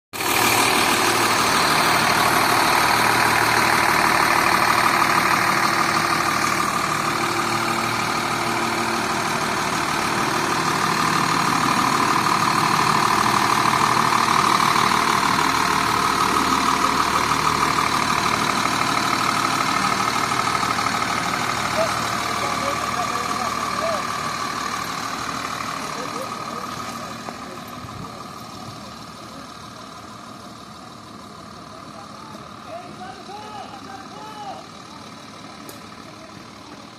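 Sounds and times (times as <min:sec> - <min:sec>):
diesel bus engine idling: 0:00.2 - 0:36.9.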